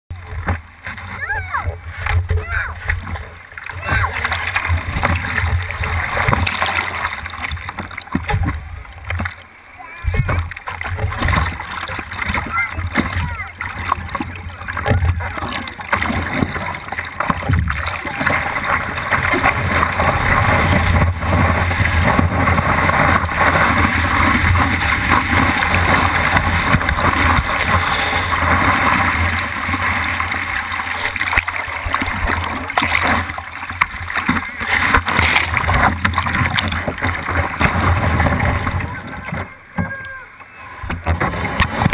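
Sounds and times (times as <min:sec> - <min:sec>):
whitewater rushing against surfboard: 0:00.1 - 0:41.9.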